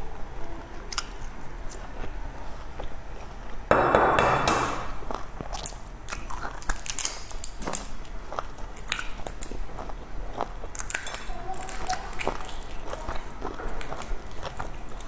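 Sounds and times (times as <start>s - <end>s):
chewing with wet mouth clicks: 0.8s - 3.6s, 5.0s - 15.0s.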